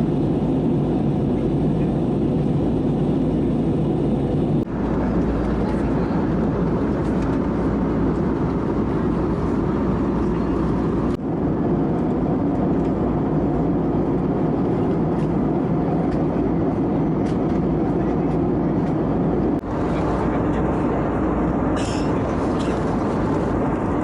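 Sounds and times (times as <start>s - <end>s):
airplane cabin noise: 0.0s - 24.0s.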